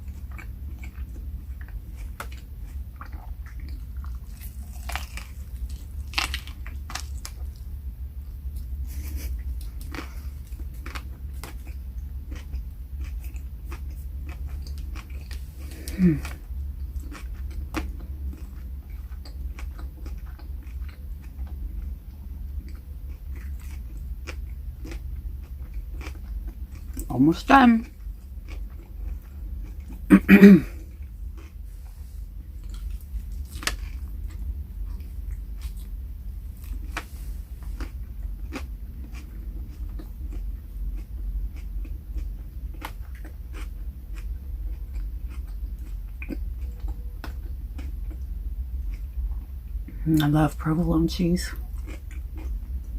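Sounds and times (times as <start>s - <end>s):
person chewing a sandwich: 0.0s - 27.2s, 27.8s - 50.0s, 51.5s - 52.9s
steady low hum: 0.0s - 52.9s.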